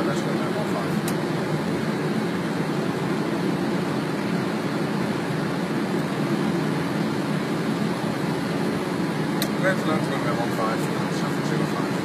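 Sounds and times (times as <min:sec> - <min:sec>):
airliner flight deck rumble: 0:00.0 - 0:12.0.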